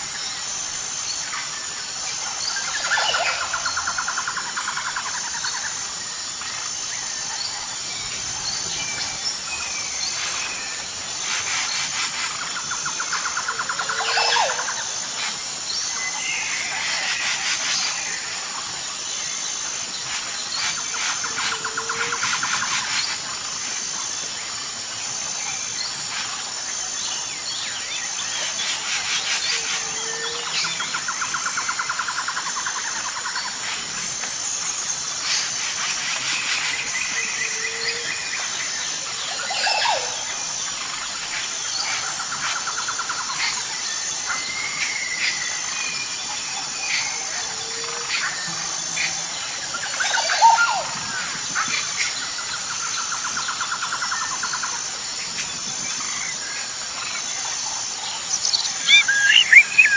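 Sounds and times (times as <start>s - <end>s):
birds calling and trilling: 0.0s - 59.9s
high-pitched insect drone: 0.0s - 59.9s.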